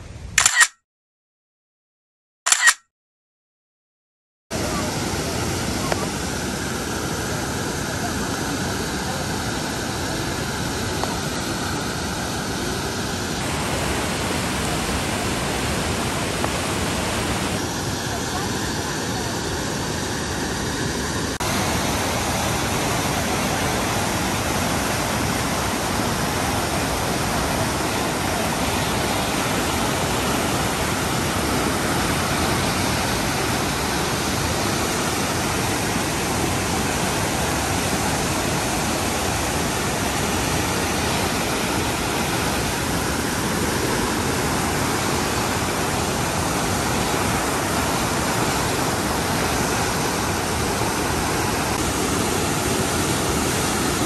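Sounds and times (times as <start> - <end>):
river rapids rushing over rocks: 7.3 - 18.1, 21.4 - 54.0.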